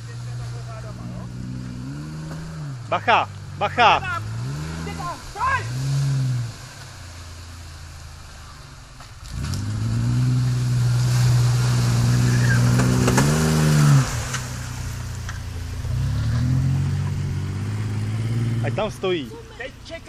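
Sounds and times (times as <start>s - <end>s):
suv engine revving: 0.0s - 20.0s
water splashing: 0.0s - 20.0s.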